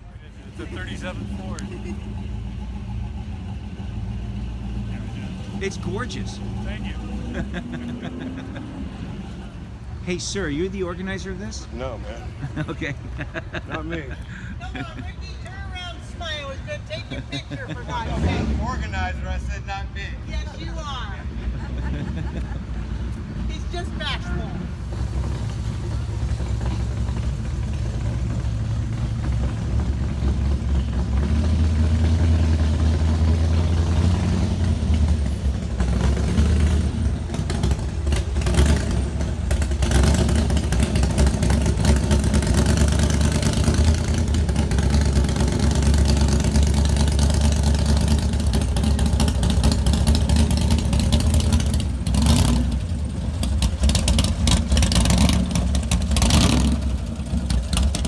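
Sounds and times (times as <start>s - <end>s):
car engine revving: 0.3s - 14.3s, 17.2s - 19.7s, 23.0s - 58.0s.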